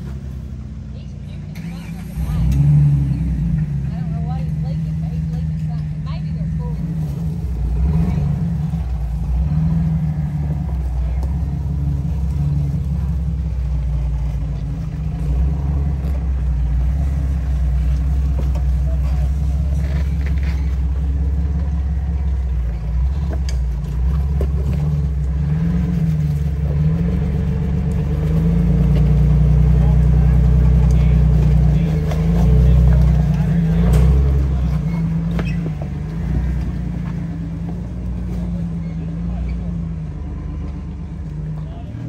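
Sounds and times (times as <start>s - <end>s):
off-road vehicle engine rumbling: 0.0s - 42.0s.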